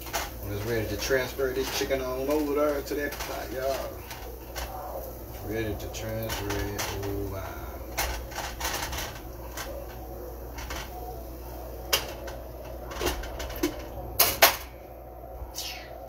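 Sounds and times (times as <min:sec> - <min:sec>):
pots and lid clinking with tongs: 0:00.0 - 0:14.8
steady low hum: 0:00.0 - 0:16.0.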